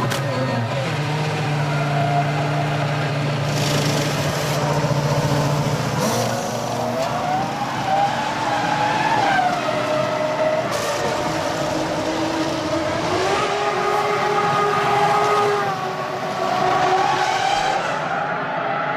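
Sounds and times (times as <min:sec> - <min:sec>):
racing car engines at high revs: 0:00.0 - 0:18.9.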